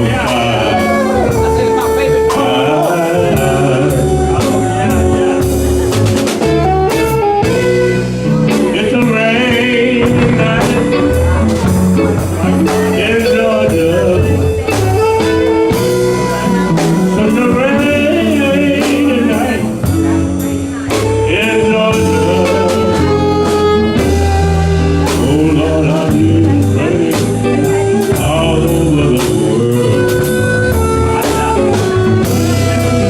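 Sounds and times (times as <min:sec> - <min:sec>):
blues guitar music: 0:00.0 - 0:33.0.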